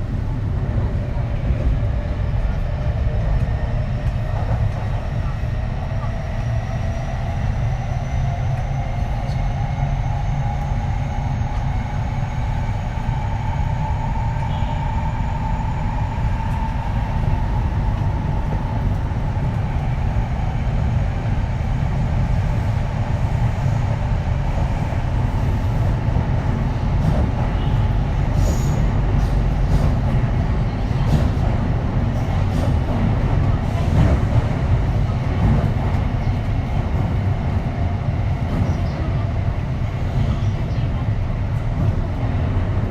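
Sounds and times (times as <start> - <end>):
wheels rumbling on rail: 0.0 - 42.9.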